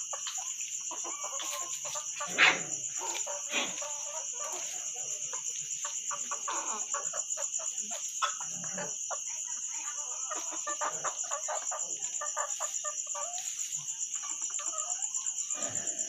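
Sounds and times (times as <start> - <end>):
chickens scuffling: 0.0 - 15.9
chickens clucking softly: 0.0 - 16.0
high-pitched insect trill: 0.0 - 16.0.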